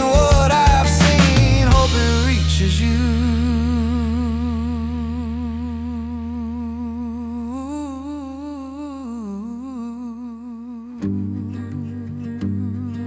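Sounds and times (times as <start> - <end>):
low bass tone: 0.0 - 10.5.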